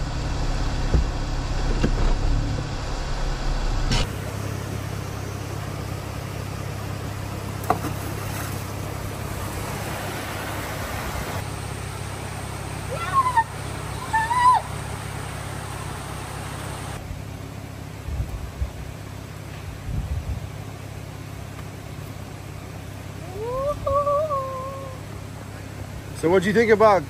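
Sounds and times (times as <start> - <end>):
car engine running at low revs: 0.0 - 27.0.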